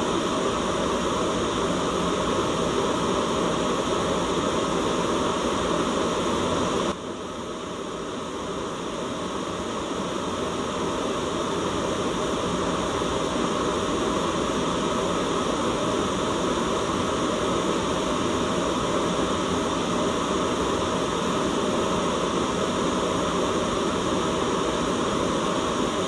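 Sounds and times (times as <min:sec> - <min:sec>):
low white noise: 0:00.0 - 0:26.0.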